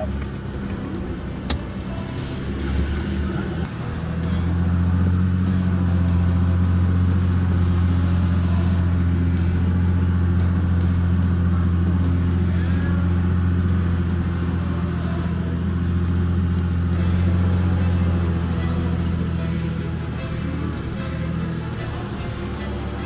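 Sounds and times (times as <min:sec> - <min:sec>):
engine droning uphill: 0:00.0 - 0:23.0.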